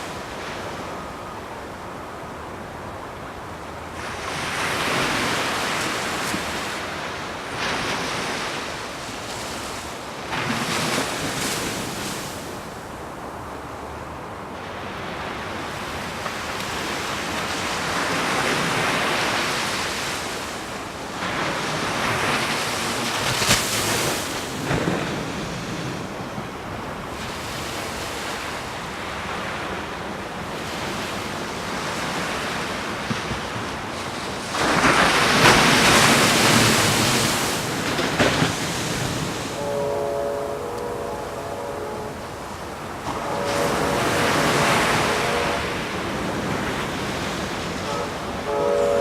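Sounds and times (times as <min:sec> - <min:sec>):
ocean surf breaking: 0:00.0 - 0:49.0.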